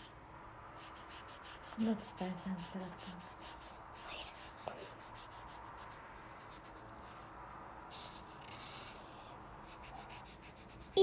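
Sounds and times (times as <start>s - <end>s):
marker pen rubbing on paper: 0.8s - 11.0s.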